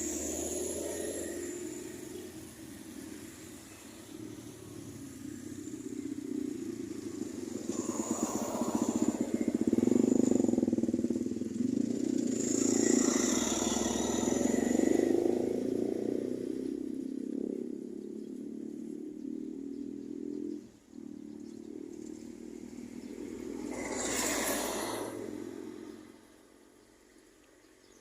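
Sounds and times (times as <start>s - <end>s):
vehicle engines passing on road: 0.0s - 28.0s.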